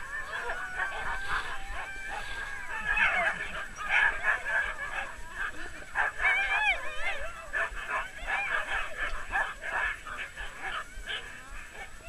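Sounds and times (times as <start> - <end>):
sled dogs yelping and barking: 0.0 - 12.0.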